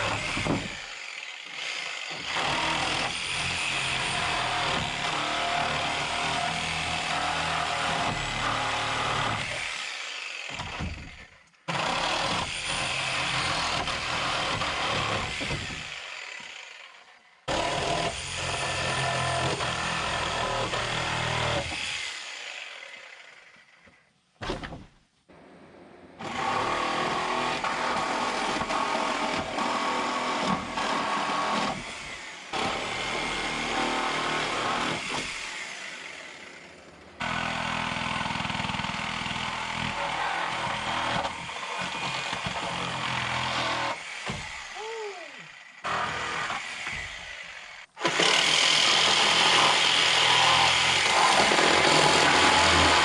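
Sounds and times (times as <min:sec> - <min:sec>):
power saw cutting wood: 0:00.0 - 0:24.1, 0:26.2 - 0:53.0.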